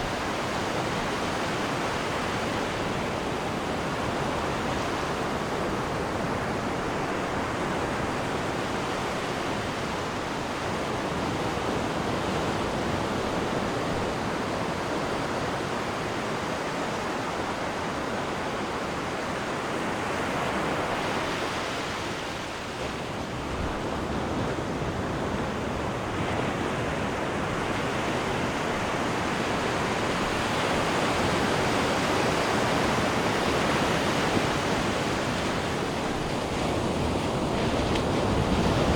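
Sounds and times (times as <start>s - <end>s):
sea water rushing in wake: 0.0s - 38.9s.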